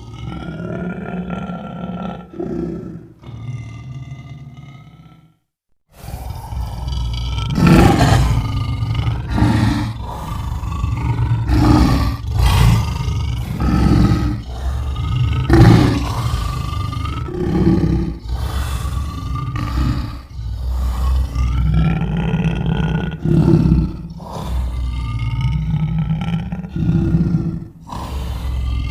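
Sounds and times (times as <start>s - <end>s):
lion roaring and grunting: 0.0s - 28.9s.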